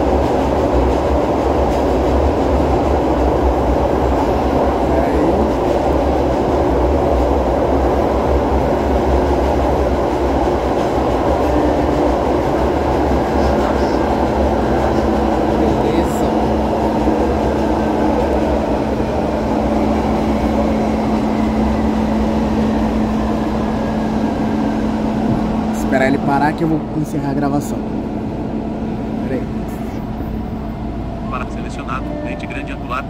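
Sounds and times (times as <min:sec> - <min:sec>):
train wheels rumbling: 0:00.0 - 0:33.0.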